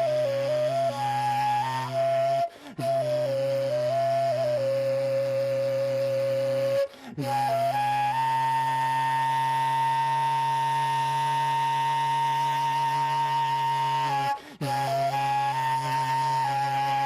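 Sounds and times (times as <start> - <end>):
end-blown flute melody: 0.0 - 17.0.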